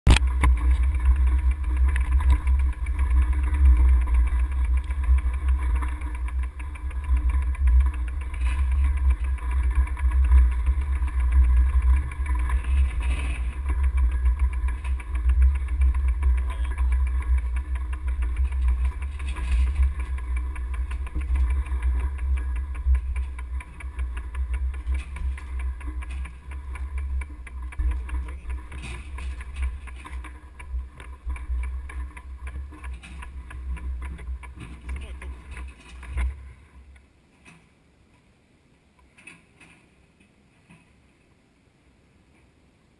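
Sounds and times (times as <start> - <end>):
excavator diesel engine running: 0.1 - 36.9
wind rumbling on microphone: 0.1 - 37.1.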